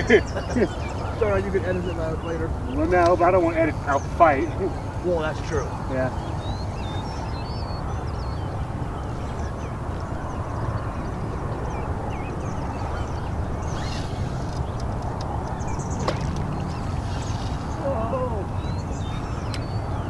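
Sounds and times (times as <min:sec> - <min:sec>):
birds chirping and calling: 0:00.0 - 0:20.0
outdoor rumble by water: 0:00.0 - 0:20.0.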